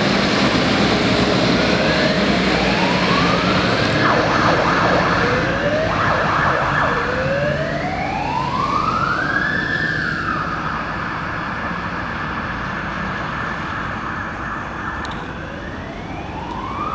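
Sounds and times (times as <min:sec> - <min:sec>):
fire engine siren: 0:00.0 - 0:16.9.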